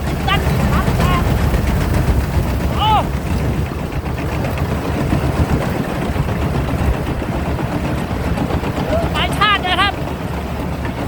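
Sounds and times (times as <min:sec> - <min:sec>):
combine harvester diesel engine drone: 0:00.0 - 0:11.0.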